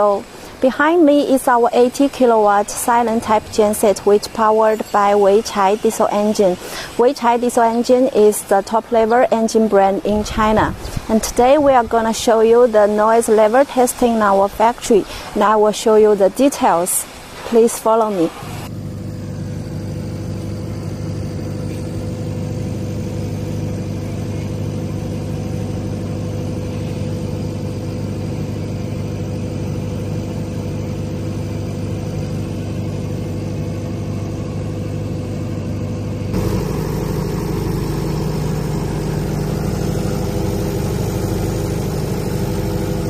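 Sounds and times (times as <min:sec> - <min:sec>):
diesel generator running: 0:00.0 - 0:16.8, 0:17.9 - 0:43.0.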